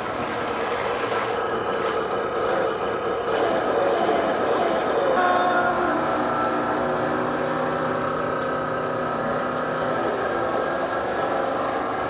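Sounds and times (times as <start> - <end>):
model bulldozer mechanical hum: 0.0 - 12.0.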